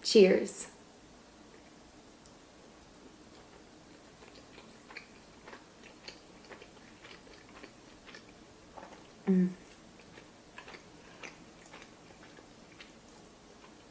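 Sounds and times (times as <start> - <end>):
person chewing food: 1.4 - 13.9.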